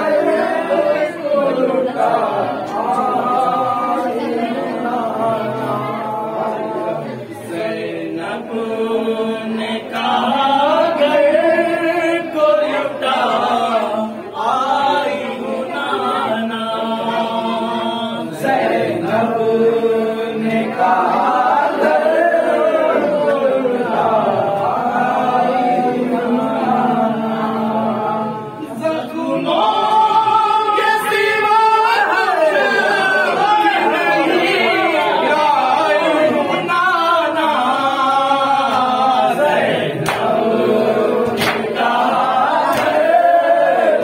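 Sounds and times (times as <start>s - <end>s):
group chanting in unison: 0.0s - 44.0s.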